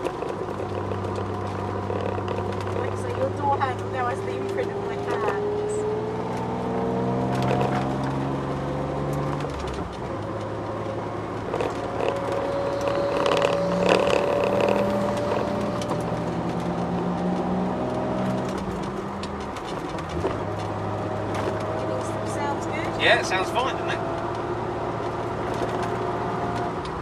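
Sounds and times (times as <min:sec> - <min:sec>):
car engine running at low revs: 0:00.0 - 0:27.0.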